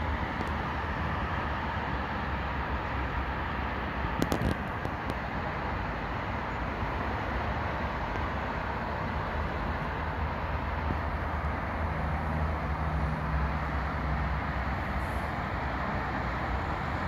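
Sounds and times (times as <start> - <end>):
distant motorway traffic: 0.0 - 17.0.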